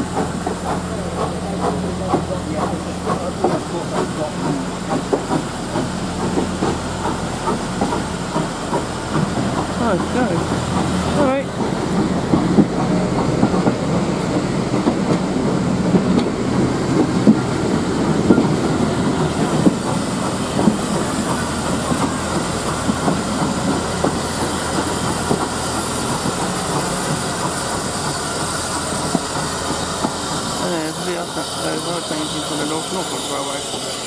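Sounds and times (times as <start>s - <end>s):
steam hissing: 0.0s - 34.0s
train wheels clicking over rail joints: 0.0s - 34.0s.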